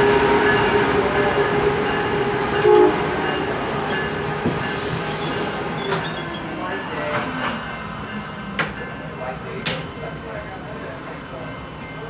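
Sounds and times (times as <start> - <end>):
train wheels and brakes squealing: 0.0 - 10.1.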